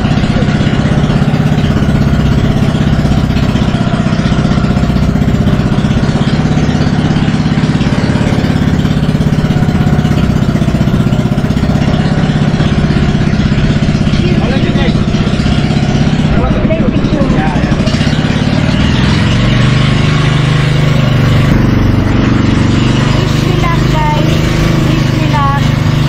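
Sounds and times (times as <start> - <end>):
boat engine throbbing: 0.0 - 26.0.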